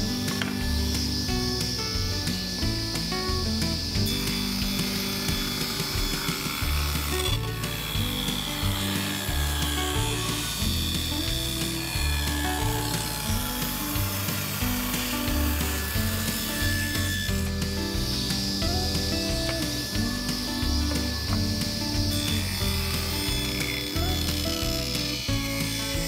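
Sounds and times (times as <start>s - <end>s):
background music with walking bass: 0.0s - 26.0s
table saw ripping a board: 0.0s - 26.0s.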